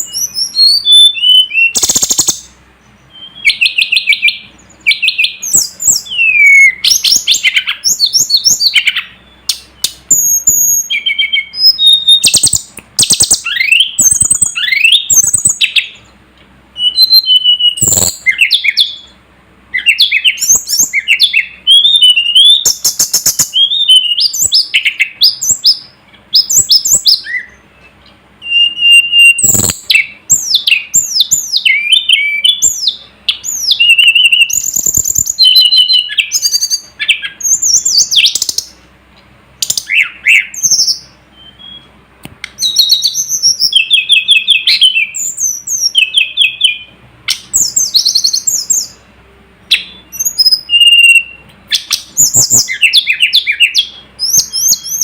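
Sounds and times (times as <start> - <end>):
bird singing chirps and whistles: 0.0 - 16.1, 16.7 - 38.8, 39.6 - 49.0, 49.7 - 55.0.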